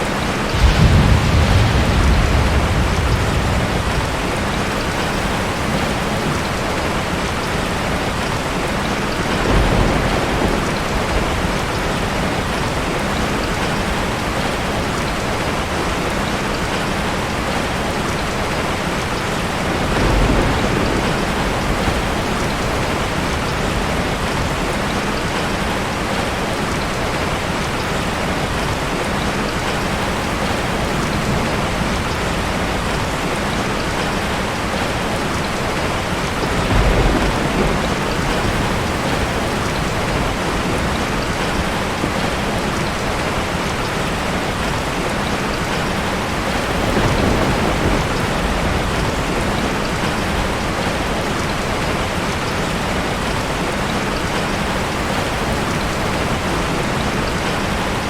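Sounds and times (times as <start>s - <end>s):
low thunder rumbles: 0.0s - 14.8s, 18.2s - 26.9s, 29.2s - 53.4s
heavy rainfall: 0.0s - 58.0s.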